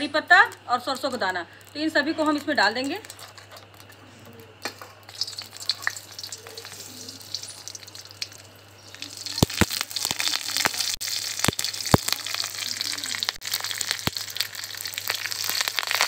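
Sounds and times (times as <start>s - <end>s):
oil sizzling with sharp pops: 0.0s - 4.0s, 4.6s - 16.0s
spices crackling in oil: 0.0s - 16.0s.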